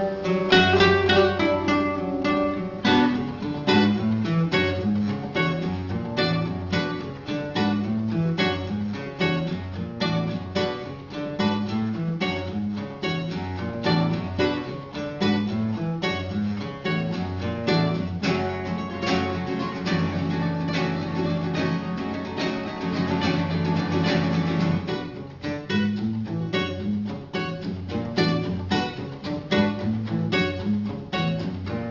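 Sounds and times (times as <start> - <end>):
acoustic guitar music: 0.0 - 31.9.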